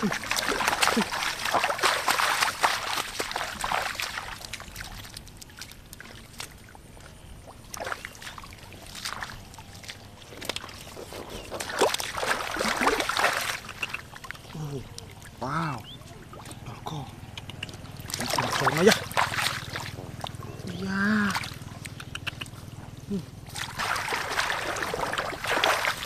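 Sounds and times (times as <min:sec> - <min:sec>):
muddy water splashing: 0:00.0 - 0:26.0
water dribbling: 0:00.0 - 0:26.0.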